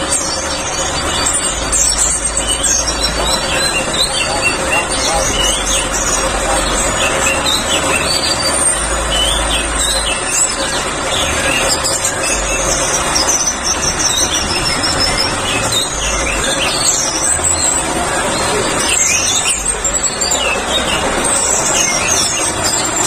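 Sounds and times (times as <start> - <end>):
songbirds chorus singing: 0.0 - 23.0.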